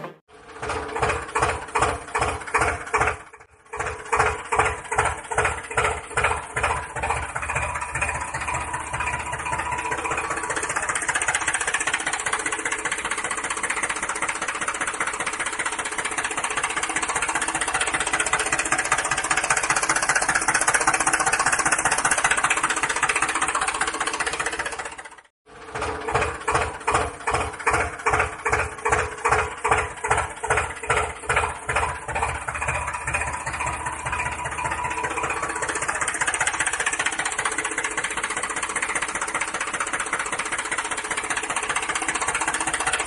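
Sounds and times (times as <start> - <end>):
tractor engine chugging: 0.0 - 43.0.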